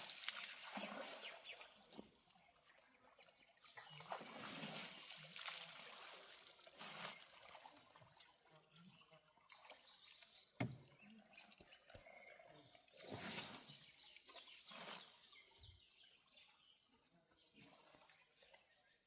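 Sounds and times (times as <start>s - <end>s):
water splashing and trickling: 0.0s - 19.0s.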